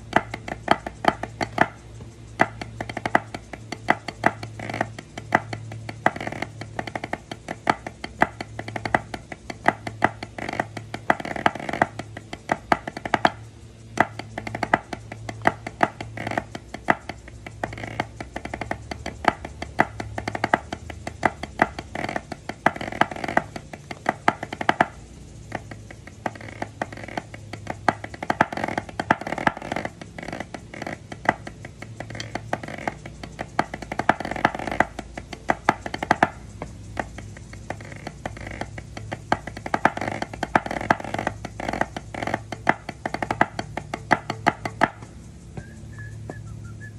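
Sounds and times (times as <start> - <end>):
drumsticks tapping on drum pad: 0.0 - 46.5.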